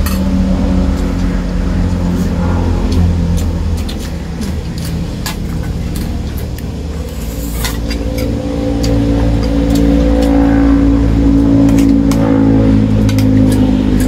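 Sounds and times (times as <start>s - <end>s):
motor engine droning: 0.0s - 14.0s.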